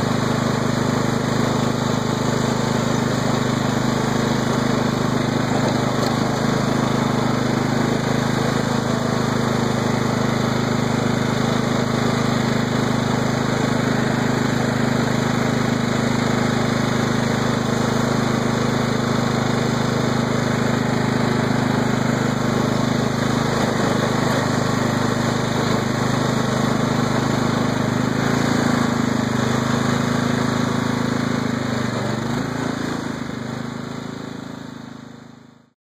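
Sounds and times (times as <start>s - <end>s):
lawn tractor engine running: 0.0s - 35.6s.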